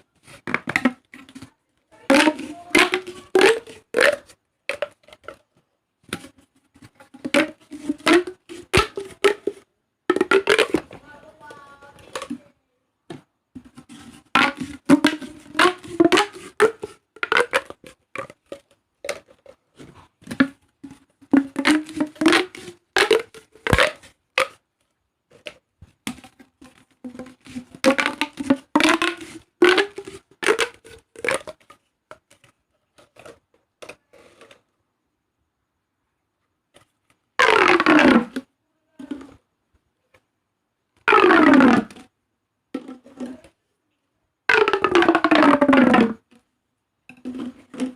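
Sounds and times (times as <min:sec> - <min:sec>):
plastic pop tubes clicking: 0:00.2 - 0:05.4, 0:06.0 - 0:12.5, 0:13.1 - 0:34.6, 0:36.7 - 0:39.4, 0:41.0 - 0:42.1, 0:44.5 - 0:46.2, 0:47.1 - 0:47.9.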